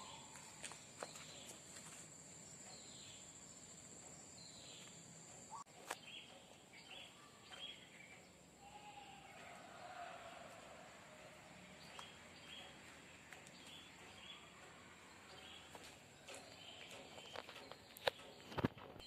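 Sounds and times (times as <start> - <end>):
bird chirps: 0.0 - 1.6, 2.4 - 9.7, 11.6 - 19.0.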